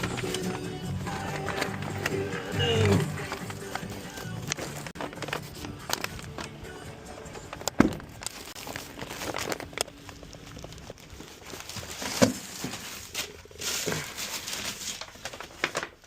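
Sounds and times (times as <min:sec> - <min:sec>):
handling rustling: 0:00.0 - 0:16.0.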